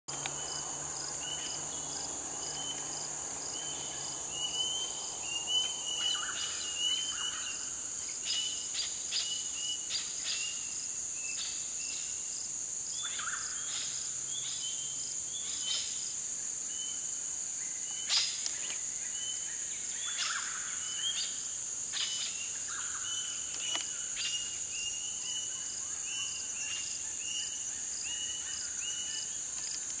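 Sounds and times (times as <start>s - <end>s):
insect chirp: 0.1s - 30.0s
insects droning: 0.1s - 30.0s.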